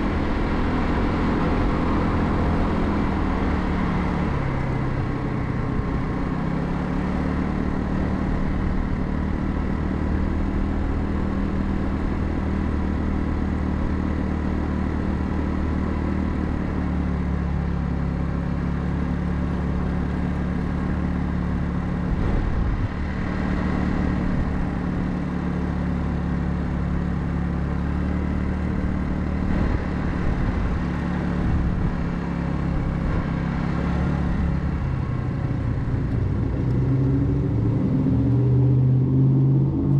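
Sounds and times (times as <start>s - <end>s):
scooter engine running: 0.0s - 36.6s.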